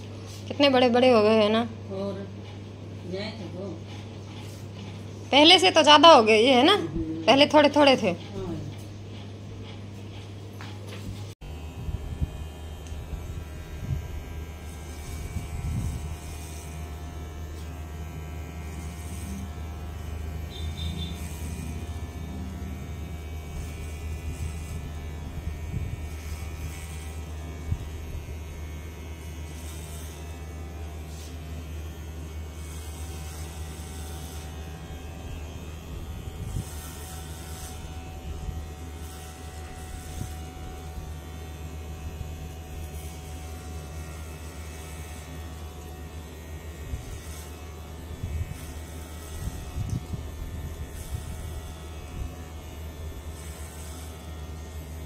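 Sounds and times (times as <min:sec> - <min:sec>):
hair clipper buzzing: 0:00.0 - 0:55.0.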